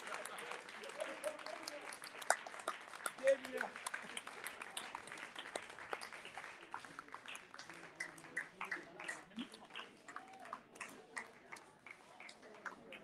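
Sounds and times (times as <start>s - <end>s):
people talking: 0.0s - 5.6s, 6.2s - 13.0s
audience applauding: 0.0s - 13.0s.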